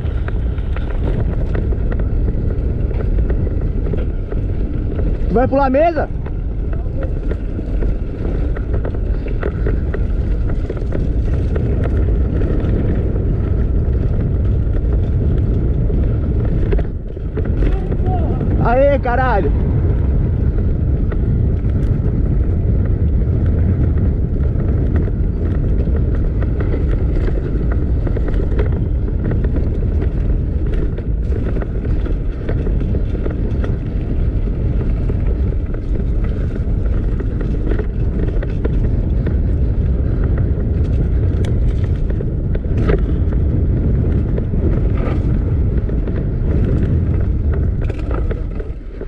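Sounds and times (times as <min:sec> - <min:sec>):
bike clicks and knocks: 0:00.0 - 0:49.0
bike tyres rolling on pavement: 0:00.0 - 0:49.0
wind buffeting microphone: 0:00.0 - 0:49.0.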